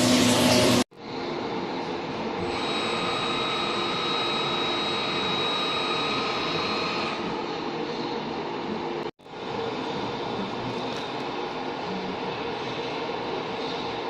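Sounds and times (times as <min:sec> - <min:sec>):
high machine whine: 0:00.0 - 0:14.0.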